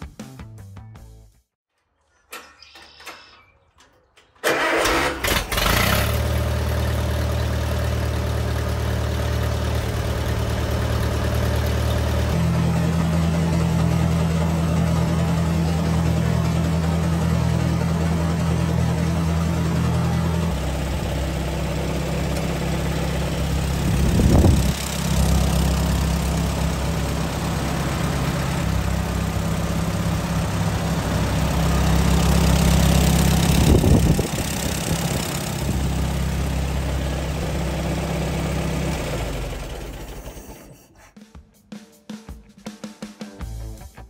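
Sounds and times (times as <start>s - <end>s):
tractor engine idling: 2.3s - 40.9s.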